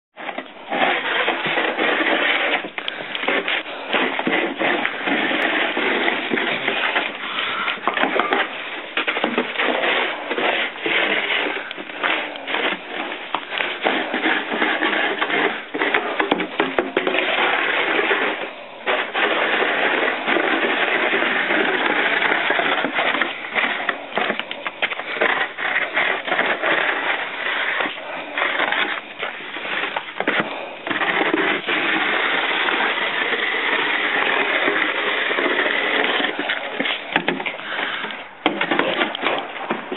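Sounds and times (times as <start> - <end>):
snow shovel scraping deck: 0.2 - 39.9.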